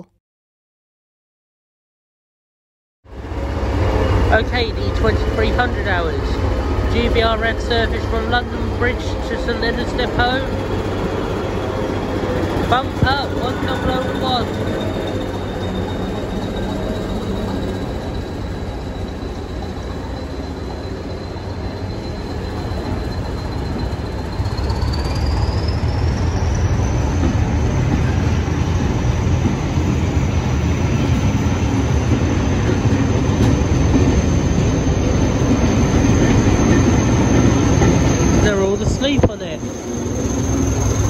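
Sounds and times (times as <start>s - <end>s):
diesel train engine: 3.1s - 41.0s
train wheel rumble: 3.1s - 41.0s.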